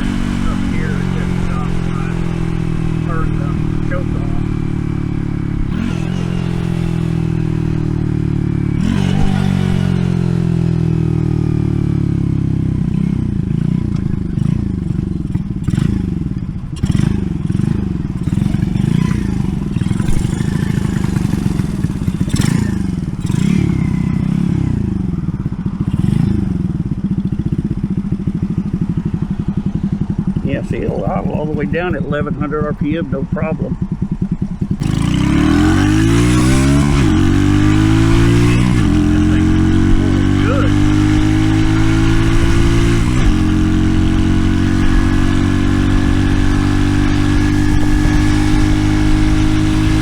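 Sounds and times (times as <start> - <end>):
minibike engine revving: 0.0 - 50.0.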